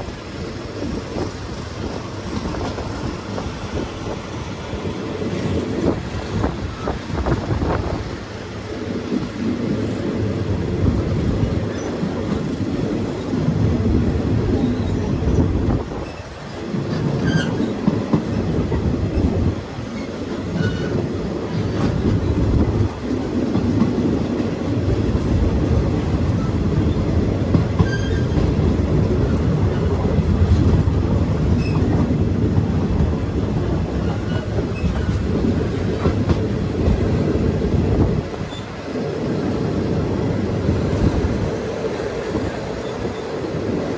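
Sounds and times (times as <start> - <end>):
train rumbling on track: 0.0 - 43.9.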